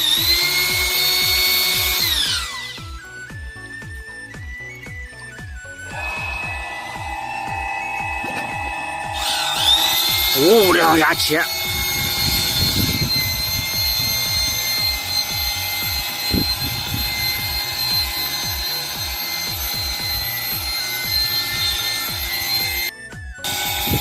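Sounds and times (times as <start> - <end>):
drill motor whining under load: 0.0 - 24.0.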